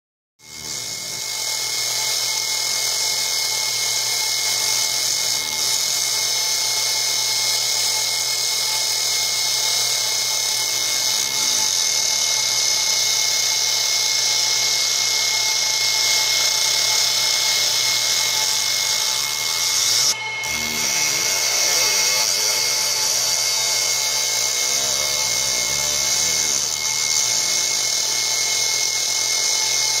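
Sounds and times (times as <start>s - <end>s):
laser engraver hissing and whining: 0.4s - 30.0s.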